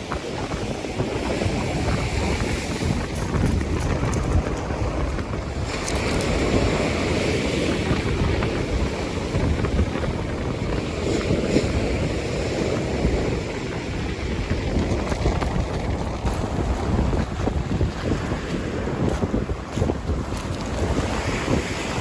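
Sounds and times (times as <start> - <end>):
sea surf washing on shore: 0.0 - 22.0
wind buffeting microphone: 0.0 - 22.0.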